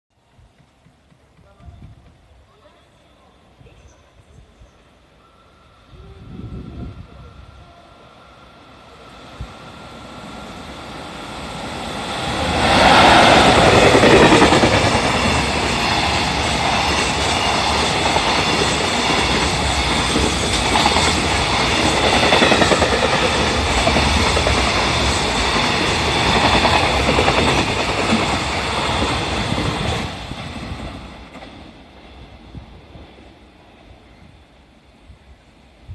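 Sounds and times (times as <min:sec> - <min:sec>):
electric locomotive passing: 0:00.2 - 0:35.9.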